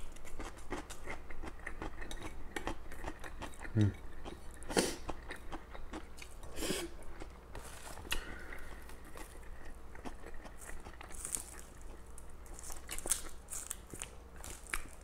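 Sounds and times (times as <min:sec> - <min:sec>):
chewing noodles: 0:00.2 - 0:15.0.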